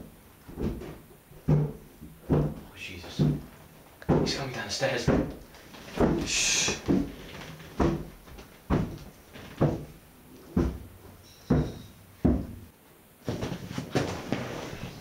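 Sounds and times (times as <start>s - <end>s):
heavy footsteps on stairs: 0.0s - 15.0s
shuffling and rustling: 0.4s - 15.0s.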